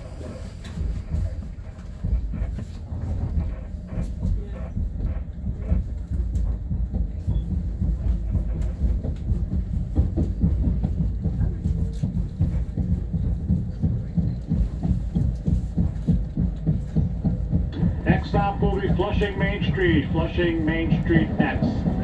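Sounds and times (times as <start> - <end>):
train rumble on board: 0.0 - 22.0.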